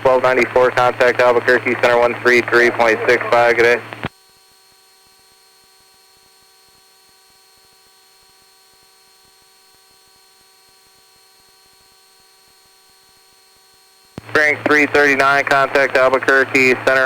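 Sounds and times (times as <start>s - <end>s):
faint electrical whine over hiss: 0.0s - 17.0s.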